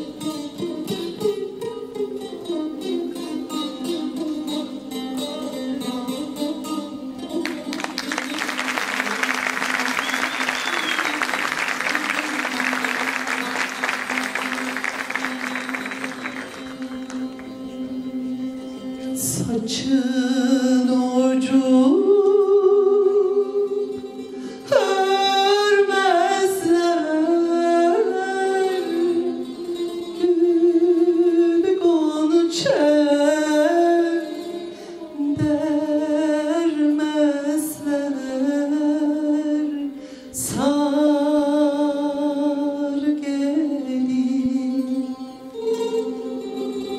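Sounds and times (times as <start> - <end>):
person singing folk melody: 0.0 - 46.9
plucked string instrument: 0.0 - 46.9.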